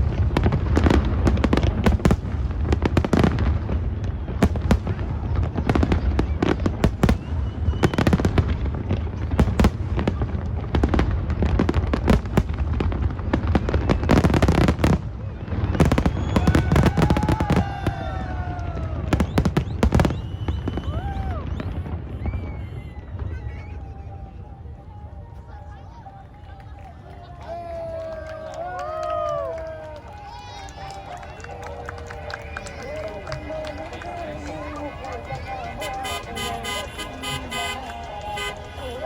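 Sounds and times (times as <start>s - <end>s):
firework bangs and crackles: 0.0s - 39.0s.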